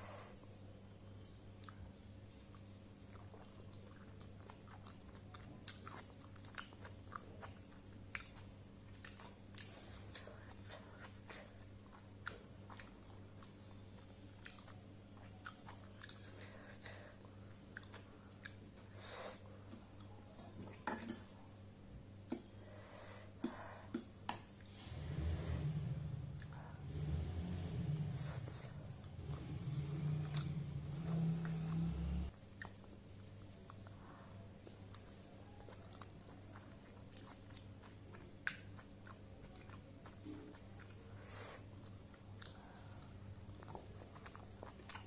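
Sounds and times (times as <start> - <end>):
faint electrical hum: 0.0 - 45.0
mouth chewing dumplings: 1.2 - 21.6, 23.4 - 45.0.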